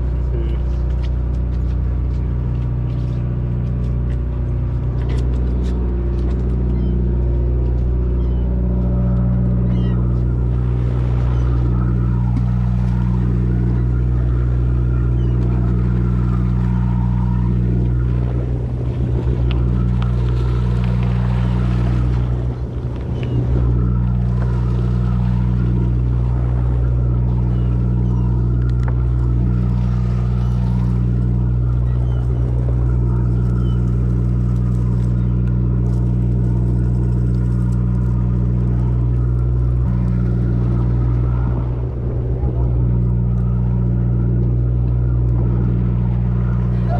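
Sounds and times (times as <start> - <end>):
boat engine drone: 0.0 - 46.9.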